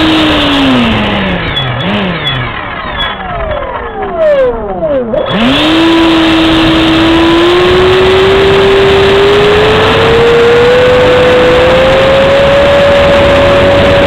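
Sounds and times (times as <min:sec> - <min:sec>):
loud rushing noise: 0:00.0 - 0:14.0
model jet engine whine: 0:00.0 - 0:14.0.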